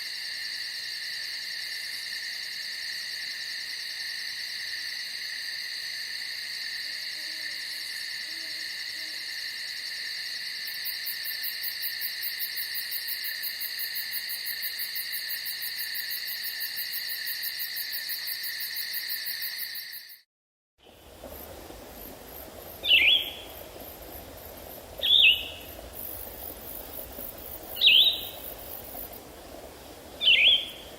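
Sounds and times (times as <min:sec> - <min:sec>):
insects chorus: 0:00.0 - 0:20.2, 0:20.8 - 0:30.9.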